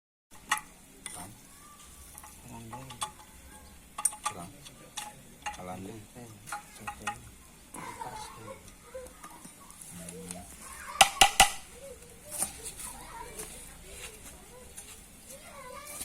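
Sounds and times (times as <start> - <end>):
faint distant calls: 0.4 - 16.0.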